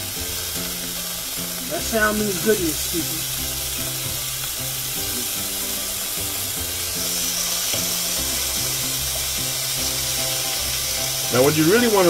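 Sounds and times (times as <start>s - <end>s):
background music: 0.0s - 12.0s
chicken sizzling on grill: 0.0s - 12.0s.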